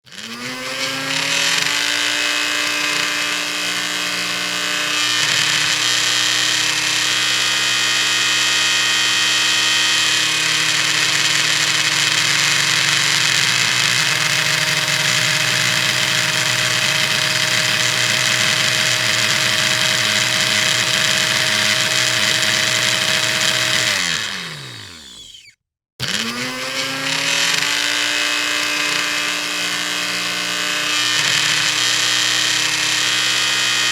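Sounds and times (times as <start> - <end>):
electric blender motor whining: 0.0 - 33.9.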